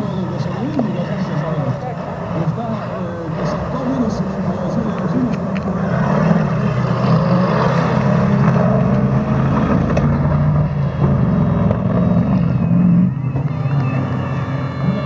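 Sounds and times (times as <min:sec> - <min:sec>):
racing truck engine: 0:00.0 - 0:15.0.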